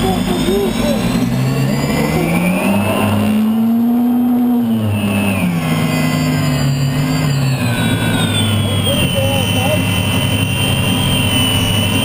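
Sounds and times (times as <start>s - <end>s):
turbine engine running: 0.0s - 12.0s.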